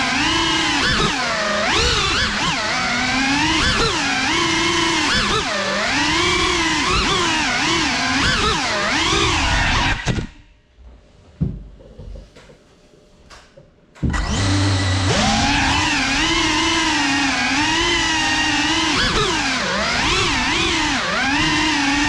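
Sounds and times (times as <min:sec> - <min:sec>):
drone motors whining: 0:00.0 - 0:10.4, 0:14.0 - 0:22.0.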